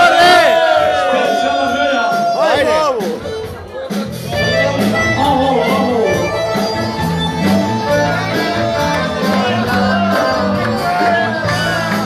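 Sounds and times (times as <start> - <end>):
live folk band instrumental: 2.1 - 12.0.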